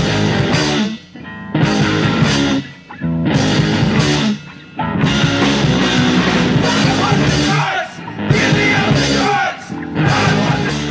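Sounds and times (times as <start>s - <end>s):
loud rock music: 0.0s - 10.9s.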